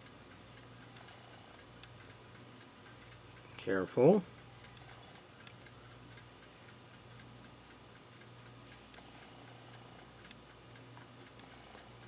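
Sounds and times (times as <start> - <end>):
faint regular ticking: 0.0 - 12.0
low steady hum: 0.0 - 12.0.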